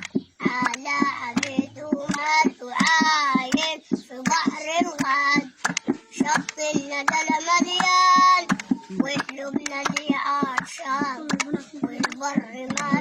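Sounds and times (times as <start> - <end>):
sharp rhythmic taps: 0.0 - 13.0
boy singing held notes: 0.4 - 13.0.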